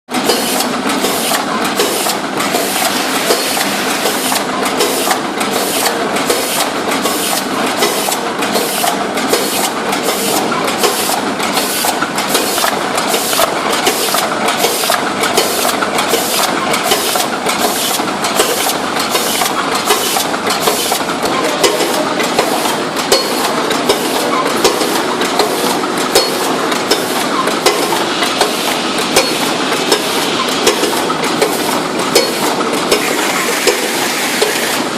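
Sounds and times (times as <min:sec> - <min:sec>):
packing machine clattering: 0:00.1 - 0:34.9.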